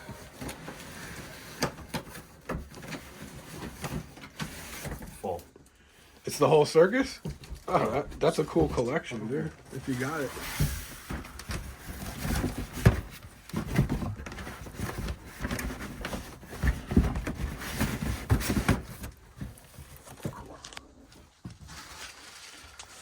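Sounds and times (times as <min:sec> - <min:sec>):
items being handled: 0:00.0 - 0:23.0.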